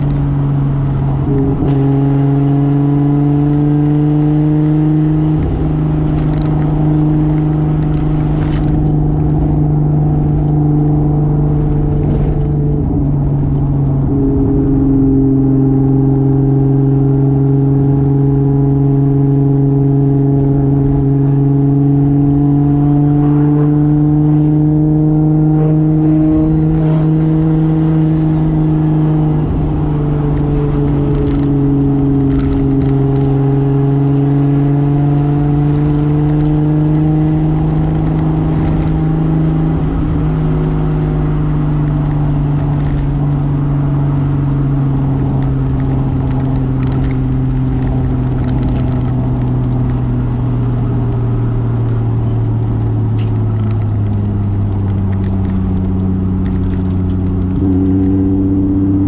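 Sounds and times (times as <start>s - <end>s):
car engine cruising: 0.0s - 59.0s.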